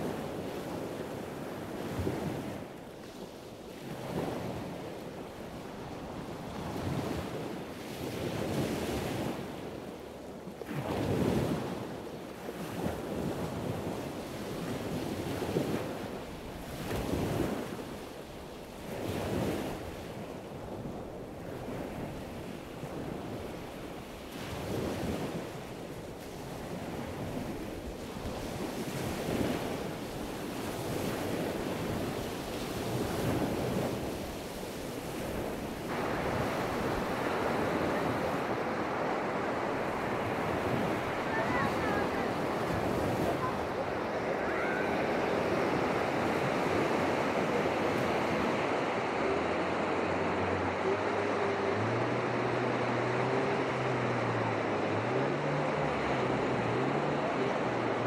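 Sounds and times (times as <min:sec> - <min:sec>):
surf washing onto beach: 0:00.0 - 0:58.0
wind buffeting microphone: 0:00.0 - 0:58.0.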